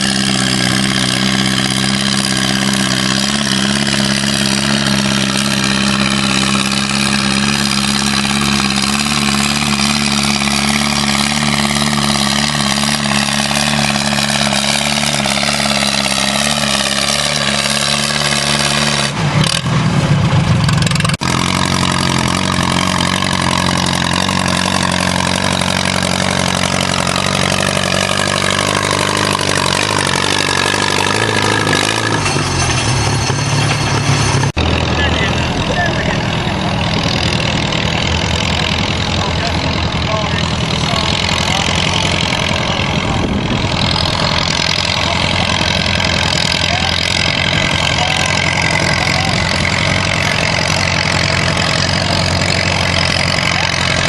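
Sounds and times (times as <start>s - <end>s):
tractor engine lugging under load: 0.0s - 54.0s.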